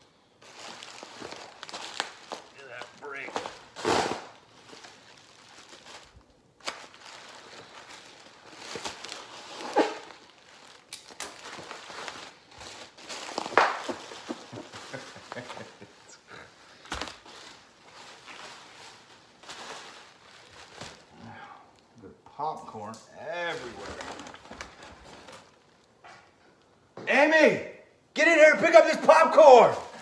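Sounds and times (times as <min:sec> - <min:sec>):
bubble wrap crinkling: 0:00.0 - 0:21.9, 0:23.2 - 0:26.0.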